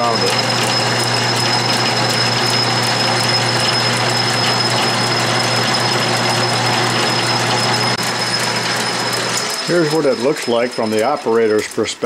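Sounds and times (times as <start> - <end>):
metal lathe running: 0.0 - 12.0.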